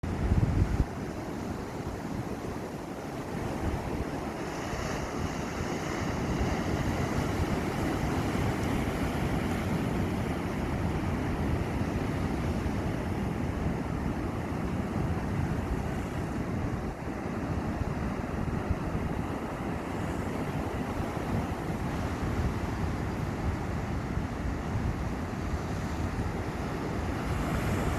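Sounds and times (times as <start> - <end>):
sea waves breaking on shore: 0.0 - 27.9
wind buffeting microphone: 0.0 - 27.9.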